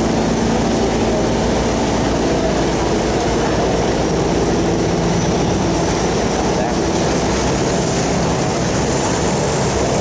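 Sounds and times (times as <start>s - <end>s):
barge engine droning: 0.0s - 10.0s.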